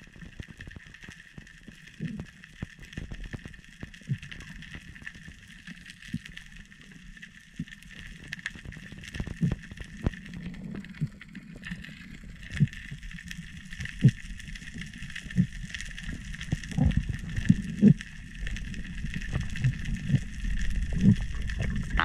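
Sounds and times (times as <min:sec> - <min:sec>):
underwater crackle of clicks: 0:00.0 - 0:22.0.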